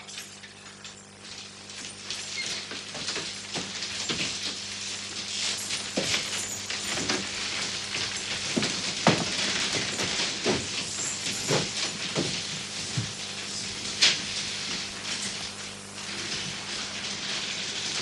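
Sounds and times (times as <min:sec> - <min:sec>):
steady hiss with low hum: 0:00.0 - 0:18.0.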